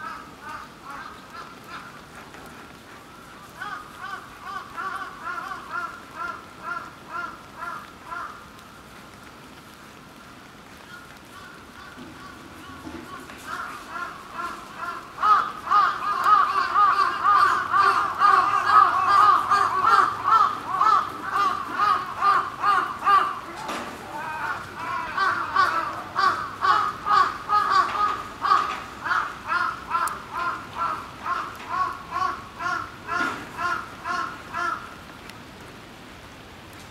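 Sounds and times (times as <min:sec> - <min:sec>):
crows cawing: 0:00.0 - 0:02.2, 0:03.2 - 0:08.6, 0:10.8 - 0:35.0.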